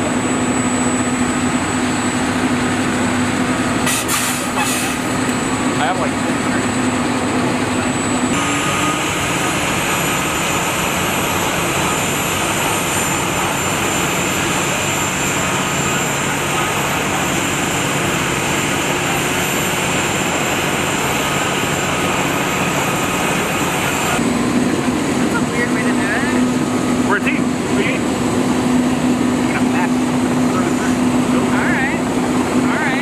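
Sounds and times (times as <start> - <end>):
aircraft turbine engine running: 0.0 - 33.0.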